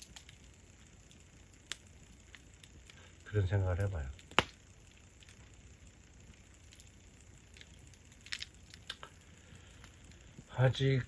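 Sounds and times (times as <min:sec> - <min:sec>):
sharp pops from fire: 0:00.0 - 0:10.5
campfire crackling: 0:00.0 - 0:11.0.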